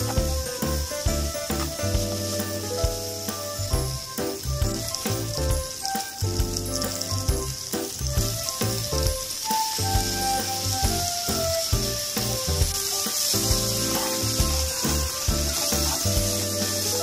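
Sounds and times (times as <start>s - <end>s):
beef sizzling in a frying pan: 0.0s - 17.0s.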